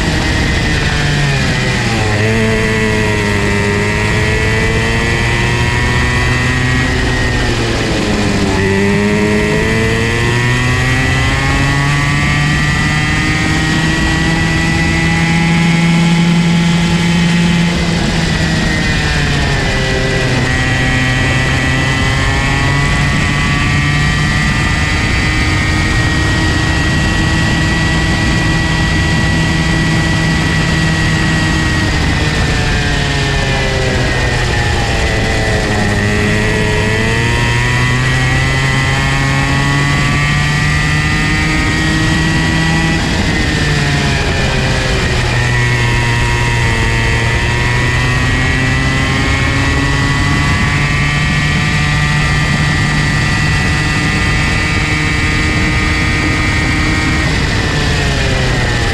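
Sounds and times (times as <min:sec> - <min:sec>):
go-kart engine at high revs: 0:00.0 - 0:58.9.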